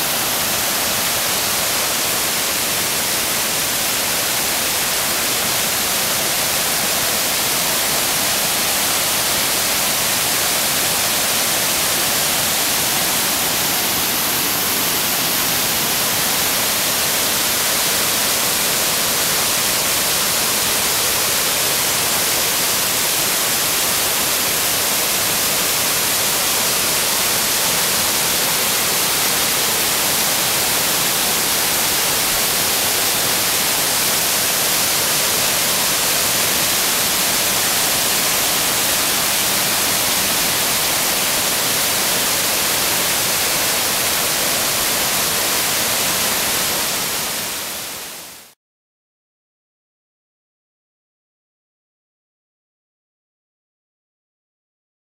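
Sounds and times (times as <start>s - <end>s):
waterfall rushing: 0.0s - 48.5s.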